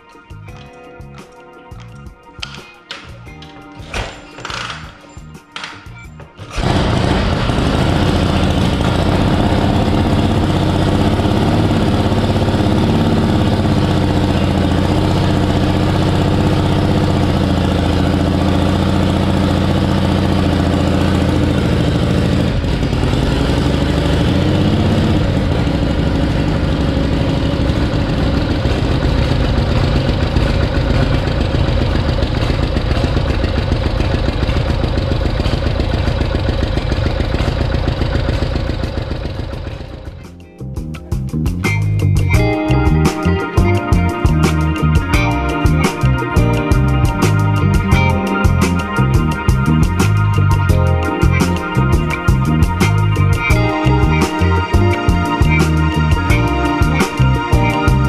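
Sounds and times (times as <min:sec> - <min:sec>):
motorcycle kick-started and idling: 0:01.8 - 0:40.4, 0:41.2 - 0:58.0.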